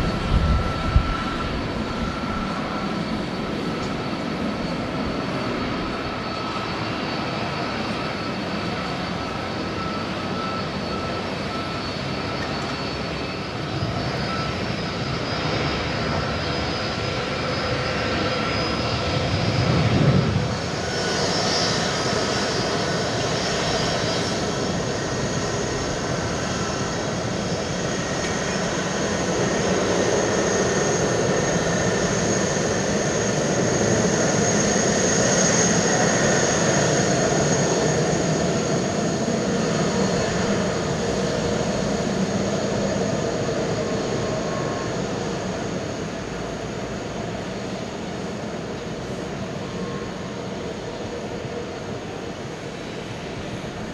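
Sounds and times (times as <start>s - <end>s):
jet engines whining at taxi: 0.0s - 53.9s.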